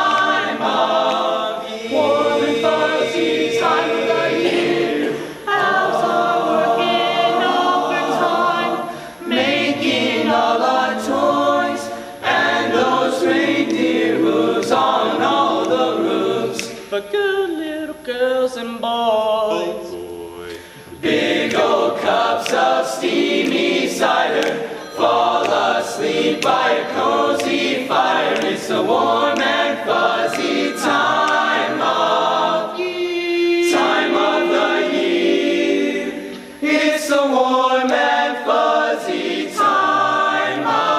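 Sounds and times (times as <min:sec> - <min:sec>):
choir singing: 0:00.0 - 0:17.4, 0:18.8 - 0:40.9.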